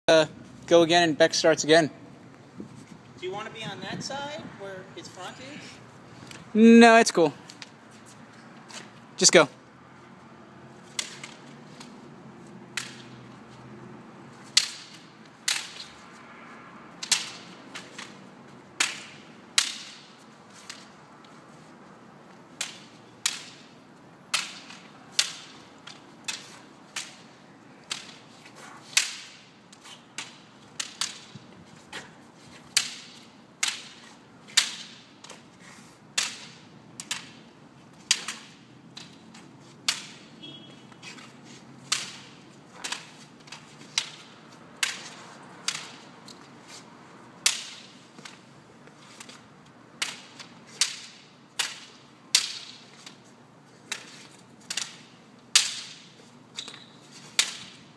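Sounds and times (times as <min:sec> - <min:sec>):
bamboo swords clacking: 0:08.6 - 0:09.0, 0:10.9 - 0:16.0, 0:16.9 - 0:57.9.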